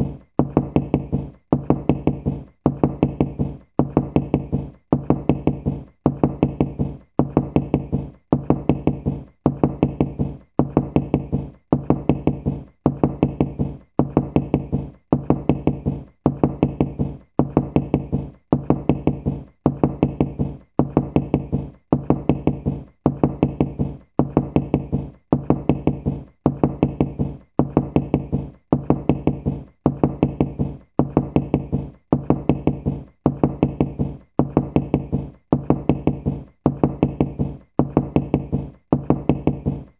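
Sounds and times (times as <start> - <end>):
knocking with resonant thuds: 0.0 - 39.9.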